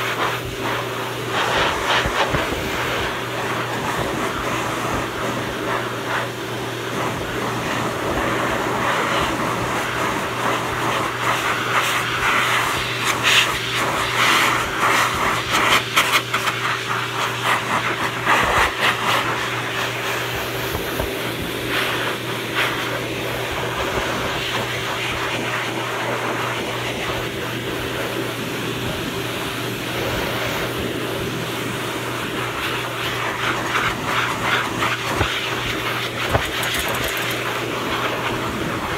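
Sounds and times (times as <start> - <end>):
pet grooming dryer blowing: 0.0 - 38.9.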